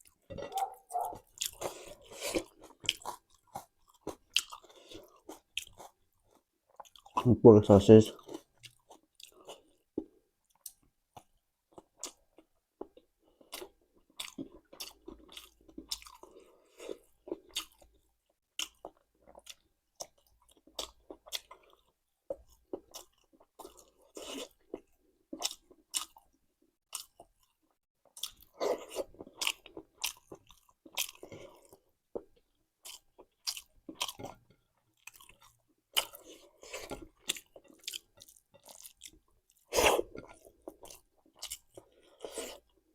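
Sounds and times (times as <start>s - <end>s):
chewing and biting food: 0.0s - 7.2s, 8.2s - 42.9s.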